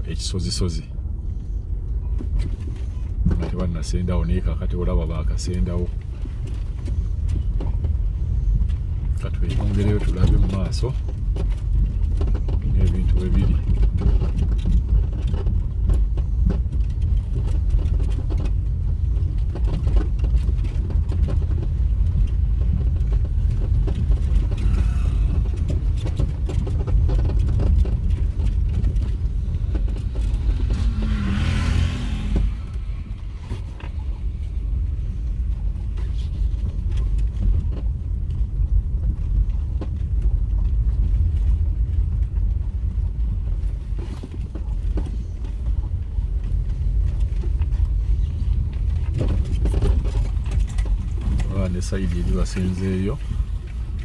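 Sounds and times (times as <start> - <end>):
vehicle rumble on road: 0.0 - 54.0
knocks and rattles: 5.5 - 54.0.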